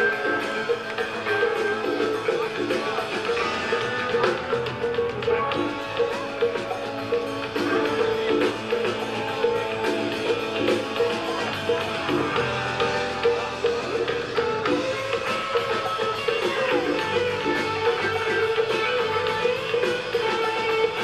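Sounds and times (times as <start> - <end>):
repeated guitar figure: 0.0 - 21.0
rock band playing: 0.0 - 21.0.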